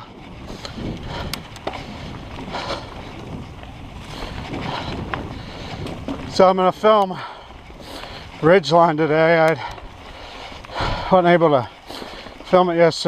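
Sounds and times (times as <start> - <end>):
bike tyre and frame rattle: 0.0 - 13.0
wind noise on microphone: 0.0 - 13.0.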